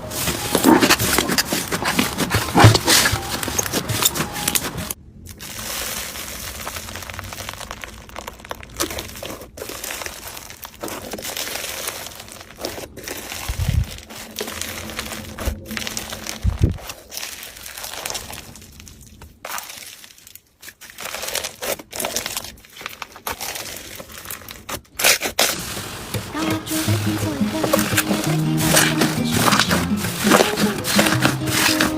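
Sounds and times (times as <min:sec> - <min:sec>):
slime crackling: 0:00.0 - 0:31.9.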